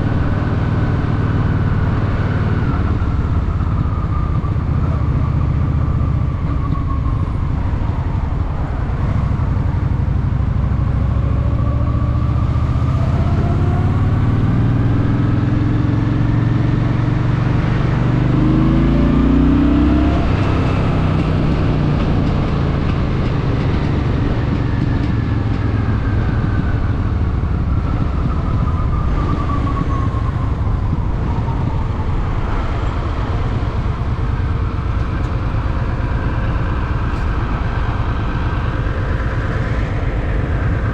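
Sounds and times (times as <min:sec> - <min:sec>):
city traffic: 0:00.0 - 0:40.9
motorcycle engine accelerating: 0:00.0 - 0:40.9.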